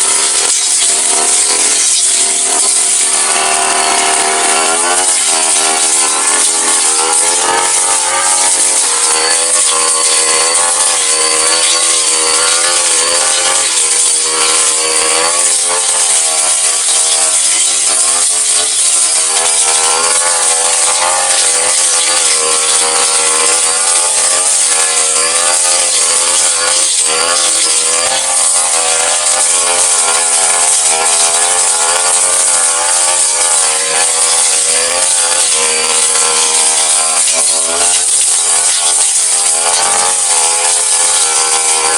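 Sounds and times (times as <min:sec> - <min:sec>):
blade cutting grass: 0:00.0 - 0:41.9
brush cutter engine running hard: 0:00.0 - 0:41.9.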